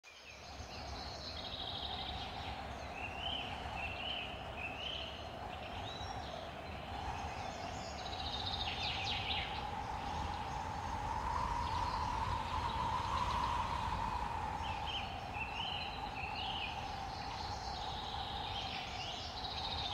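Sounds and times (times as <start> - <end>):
small birds chirping and trilling: 0.1 - 19.9.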